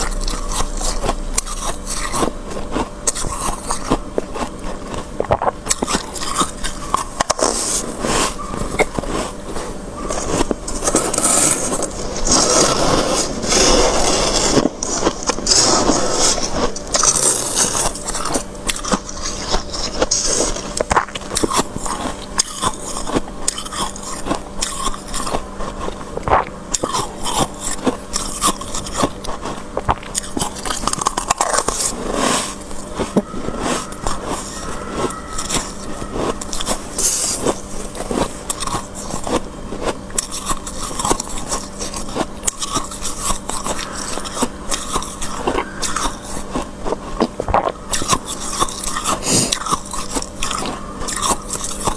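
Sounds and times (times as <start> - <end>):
frost crunching and crackling: 0.0 - 51.9
steady low hum: 0.0 - 51.9.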